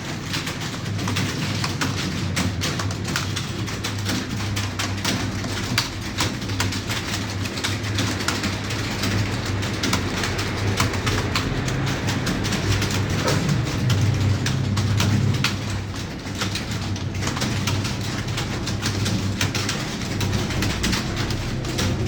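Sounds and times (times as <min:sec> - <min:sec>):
steady low hum: 0:00.0 - 0:18.1
computer keyboard typing: 0:00.0 - 0:22.0.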